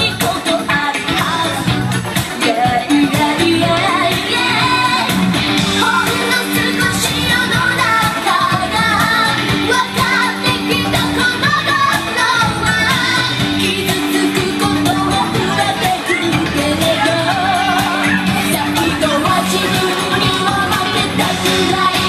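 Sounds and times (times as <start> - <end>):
pop dance track: 0.0 - 22.0
women singing: 0.0 - 22.0.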